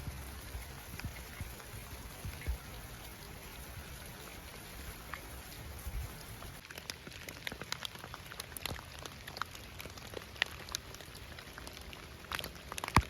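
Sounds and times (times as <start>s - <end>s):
raindrops ticking: 0.0s - 13.0s
steady rain hiss: 0.0s - 13.0s.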